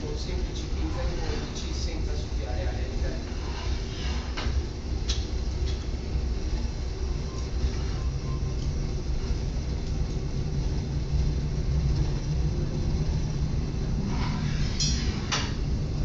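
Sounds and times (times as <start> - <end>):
furnace roaring: 0.0 - 16.0.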